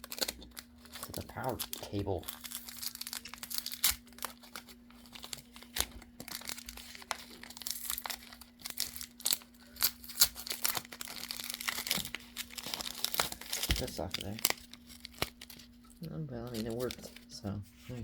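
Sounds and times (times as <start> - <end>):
tape peeling and tearing: 0.0 - 17.2
plastic wrap and foam crinkling: 0.0 - 18.0.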